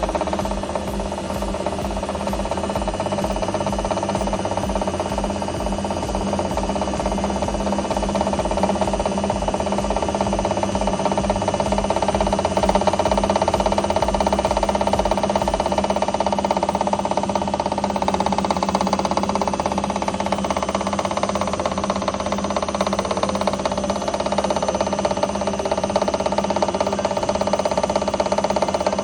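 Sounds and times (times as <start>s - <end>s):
washing machine running: 0.0s - 29.0s.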